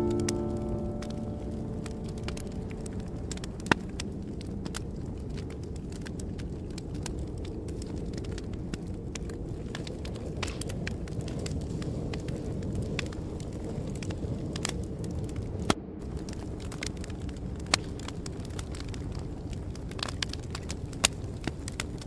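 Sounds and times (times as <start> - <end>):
fire crackling: 0.0 - 22.0
sharp pops of fire: 0.0 - 22.0.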